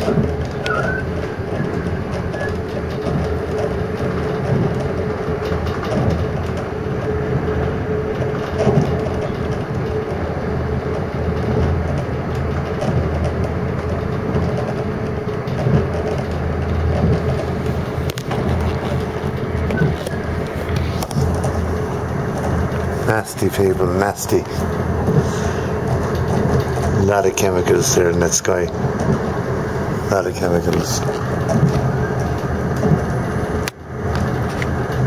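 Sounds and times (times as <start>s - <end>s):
constant hum: 0.0s - 35.0s
train rumbling: 0.0s - 35.0s.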